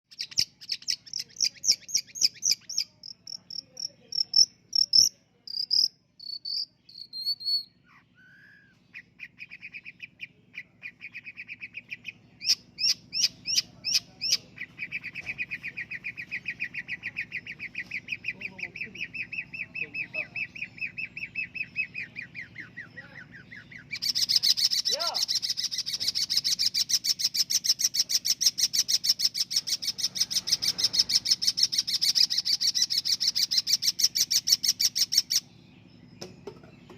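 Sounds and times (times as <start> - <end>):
bird singing trills: 0.1 - 36.9.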